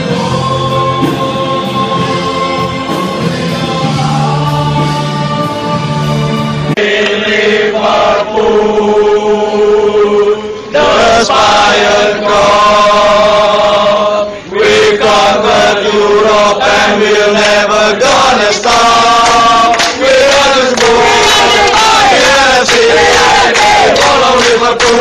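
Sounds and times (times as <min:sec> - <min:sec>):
crowd singing a chant: 0:00.0 - 0:25.0.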